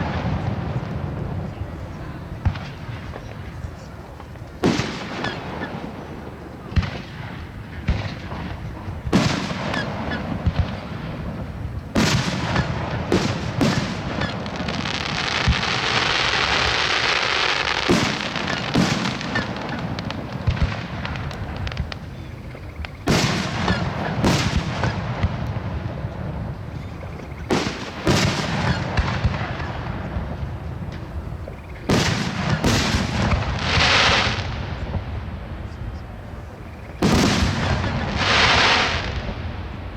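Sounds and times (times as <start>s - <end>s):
fireworks booming: 0.0s - 35.8s, 36.4s - 39.9s
fireworks crackling: 0.0s - 39.9s.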